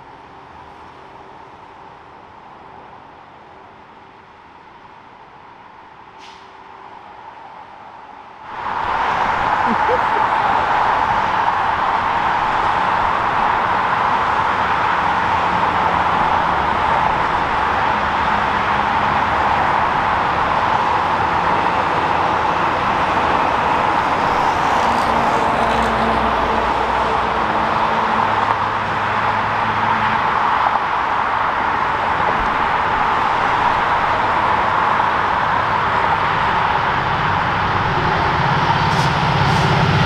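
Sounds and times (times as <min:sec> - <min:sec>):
faint diesel locomotive drone: 0:00.0 - 0:40.0
road traffic noise: 0:00.0 - 0:40.0.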